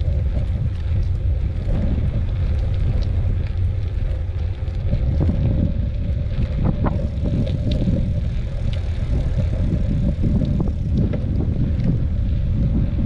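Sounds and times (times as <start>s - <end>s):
bike ticks and rattles: 0.0s - 13.0s
faint steady hum: 0.0s - 13.0s
wind buffeting microphone: 0.0s - 13.0s.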